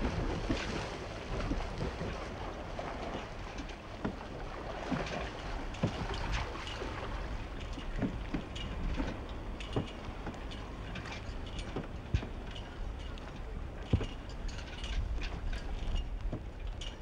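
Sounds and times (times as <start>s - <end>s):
paddle knocks and splashes: 0.0s - 17.0s
water wash: 0.0s - 17.0s
wind: 0.0s - 17.0s.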